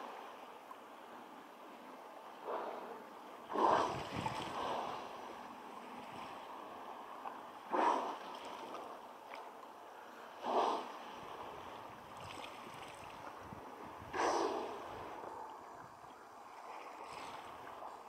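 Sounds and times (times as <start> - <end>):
hiss of water and wind: 0.0 - 18.0.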